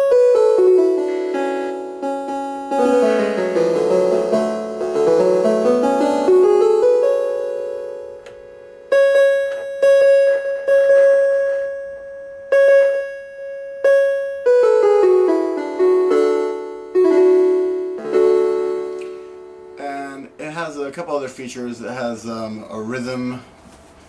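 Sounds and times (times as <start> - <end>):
electronic keyboard with tremolo: 0.0 - 21.1.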